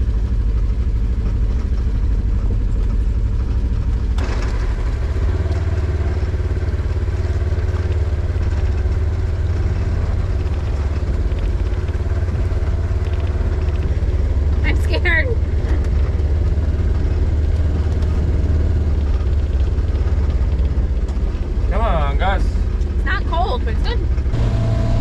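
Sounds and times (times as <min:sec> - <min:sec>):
utility vehicle engine rumbling: 0:00.0 - 0:25.0.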